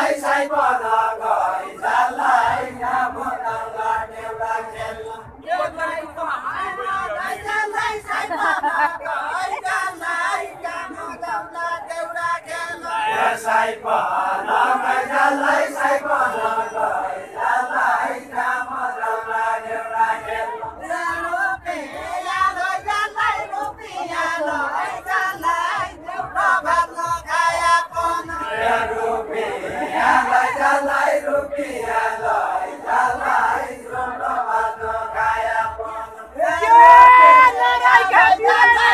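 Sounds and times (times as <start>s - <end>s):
group singing in unison: 0.0s - 38.9s.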